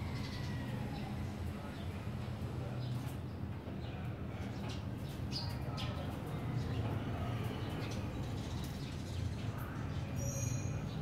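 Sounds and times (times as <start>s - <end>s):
sparrows chirping: 0.0s - 2.1s, 2.7s - 11.0s.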